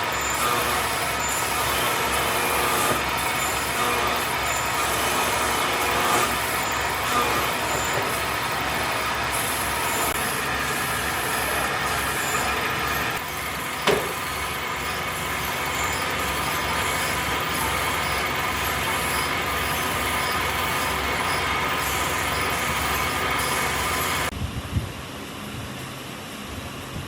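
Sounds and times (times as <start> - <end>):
wood lathe running: 0.0 - 24.3.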